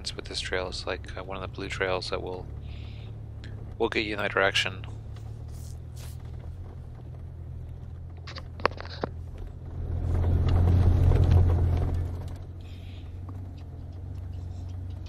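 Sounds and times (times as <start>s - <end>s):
vehicle engine low drone: 0.0s - 15.0s.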